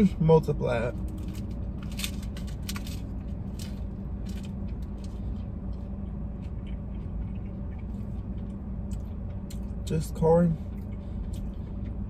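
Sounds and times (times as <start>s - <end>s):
low car cabin hum: 0.0s - 12.0s
person chewing: 1.0s - 9.9s, 10.5s - 12.0s.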